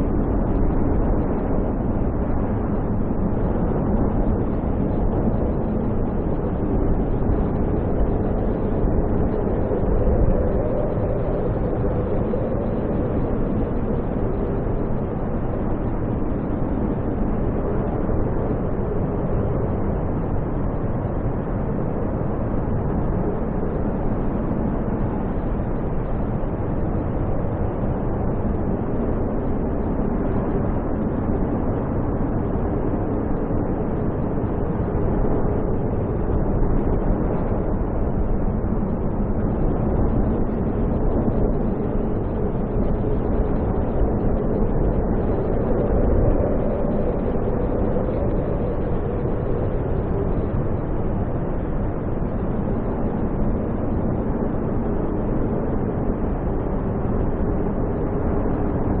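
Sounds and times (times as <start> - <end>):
snowstorm wind roaring: 0.0 - 59.0.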